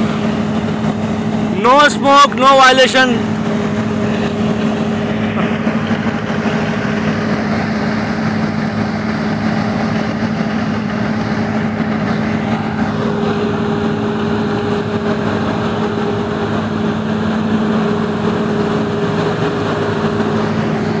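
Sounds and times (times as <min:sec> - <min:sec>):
diesel generator running: 0:00.0 - 0:21.0.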